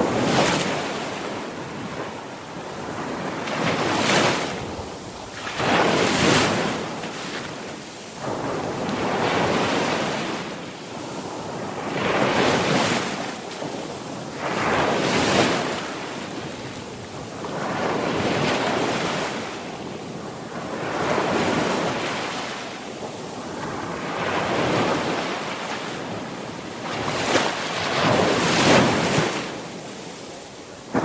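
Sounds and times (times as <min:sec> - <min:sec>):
sea waves breaking: 0:00.0 - 0:19.7, 0:20.4 - 0:31.0.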